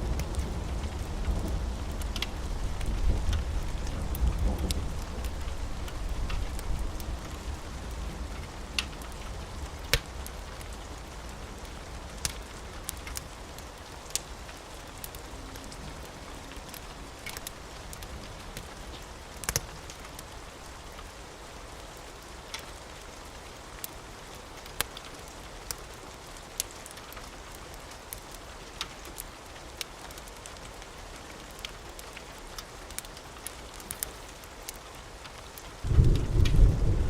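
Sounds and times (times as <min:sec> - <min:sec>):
rain hiss: 0:00.0 - 0:37.0
wood fire crackling: 0:00.0 - 0:37.0.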